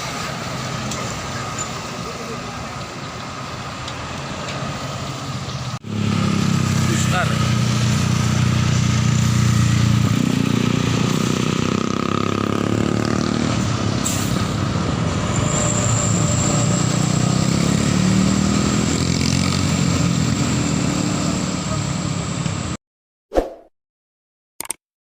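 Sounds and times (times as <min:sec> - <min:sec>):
diesel bus engine passing: 0:00.0 - 0:22.8.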